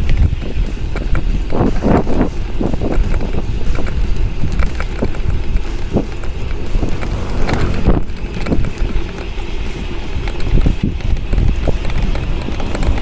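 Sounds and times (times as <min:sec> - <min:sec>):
bike rattling on rough pavement: 0:00.0 - 0:13.0
steady low rumble: 0:00.0 - 0:13.0
wind rushing over microphone: 0:00.0 - 0:13.0.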